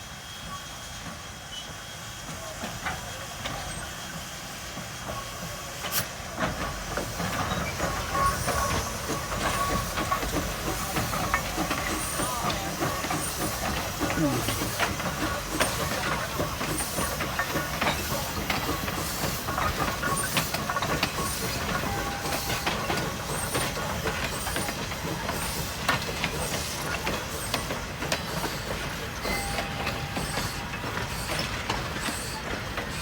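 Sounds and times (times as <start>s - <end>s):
steam locomotive hiss and rumble: 0.0s - 33.0s
clanks and wheel clicks: 6.4s - 33.0s.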